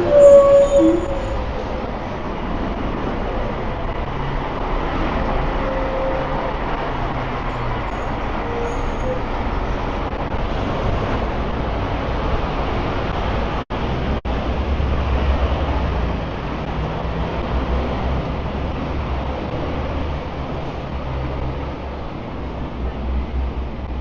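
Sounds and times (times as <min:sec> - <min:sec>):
street traffic hiss: 0:00.0 - 0:24.0.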